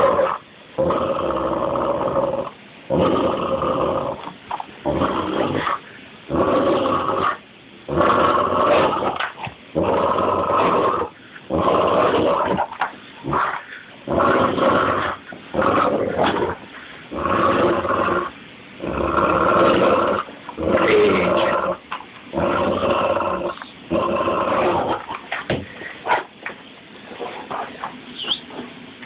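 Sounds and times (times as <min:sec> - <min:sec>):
dog growling: 0:00.0 - 0:25.4.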